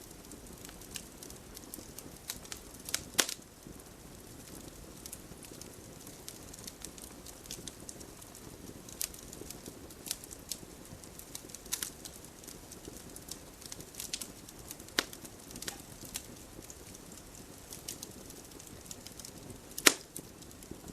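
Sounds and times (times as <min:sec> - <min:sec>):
low rush of flames: 0:00.0 - 0:20.9
wood fire crackling and popping: 0:00.0 - 0:20.9.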